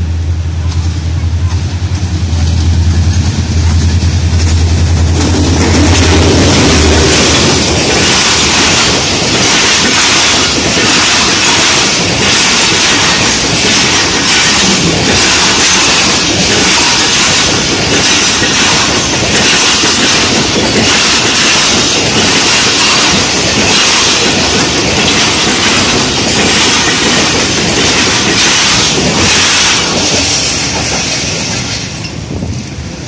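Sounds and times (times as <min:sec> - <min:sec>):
train wheels rushing on rail: 0:00.0 - 0:33.0
wheels clickety-clack on rail joints: 0:00.0 - 0:33.0.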